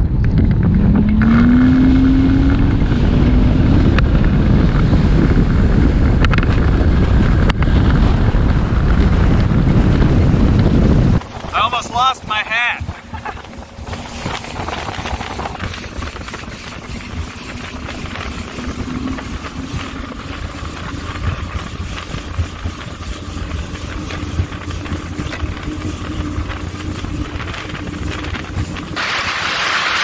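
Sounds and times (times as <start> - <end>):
outboard engine running: 0.0 - 30.0.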